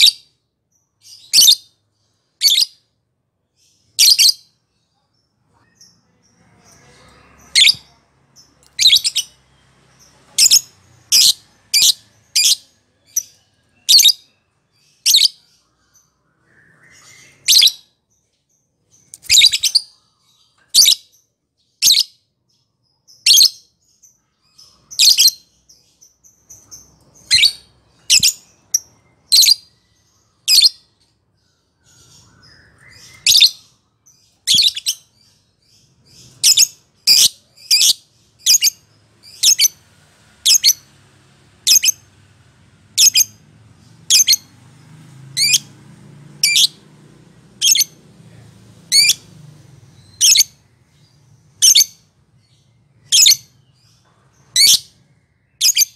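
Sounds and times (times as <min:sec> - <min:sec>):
lovebird chirping: 0:00.0 - 0:03.0, 0:03.6 - 0:41.0, 0:41.6 - 0:42.2, 0:42.8 - 0:46.9, 0:47.5 - 0:48.0, 0:48.8 - 0:55.9.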